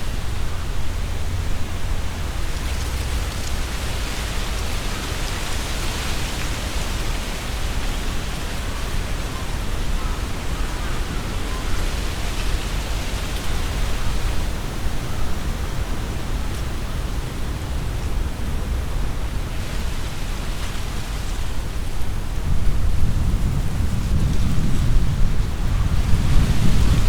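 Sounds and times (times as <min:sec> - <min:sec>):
leaves rustling in wind: 0:00.0 - 0:27.0
wind buffeting microphone: 0:00.0 - 0:27.0.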